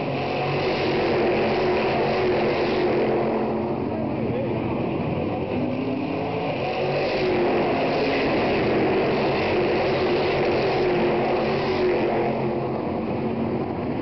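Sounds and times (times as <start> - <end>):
race cars passing at high revs: 0.0 - 14.0.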